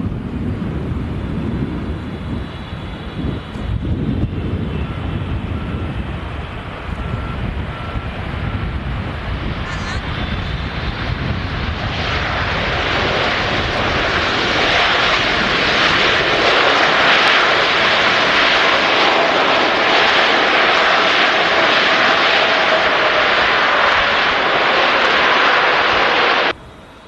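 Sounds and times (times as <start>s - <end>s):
jet airliner engine roar: 0.0s - 27.0s.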